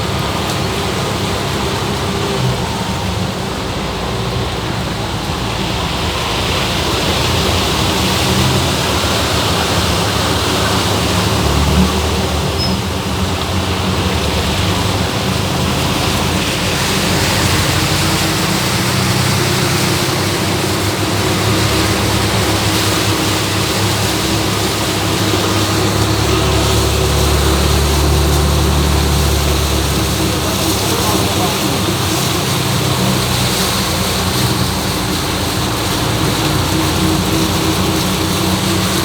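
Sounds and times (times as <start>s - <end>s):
heavy rain on flooded road: 0.0s - 39.0s
vehicle engine low hum: 0.0s - 39.0s.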